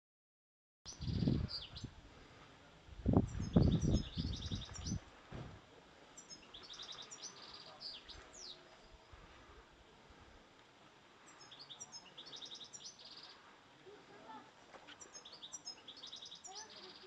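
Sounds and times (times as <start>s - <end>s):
songbird singing faintly: 0.9s - 17.0s.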